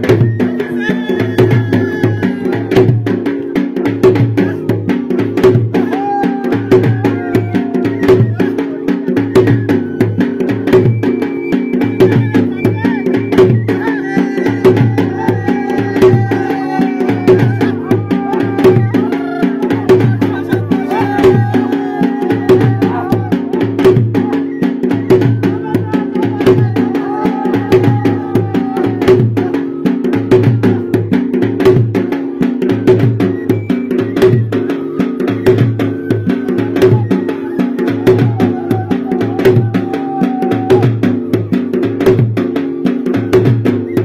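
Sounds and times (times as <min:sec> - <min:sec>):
steady drum beat: 0:00.0 - 0:44.0.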